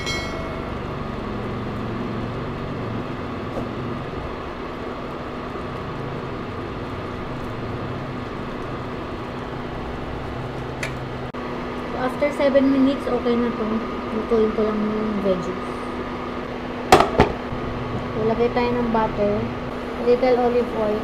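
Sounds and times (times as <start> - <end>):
cooling fan humming: 0.0 - 21.0.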